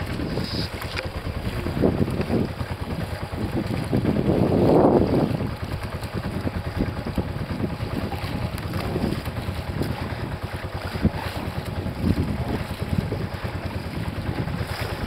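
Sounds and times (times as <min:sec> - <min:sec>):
water slapping against boat hull: 0:00.0 - 0:15.0
wind buffeting microphone: 0:00.0 - 0:15.0.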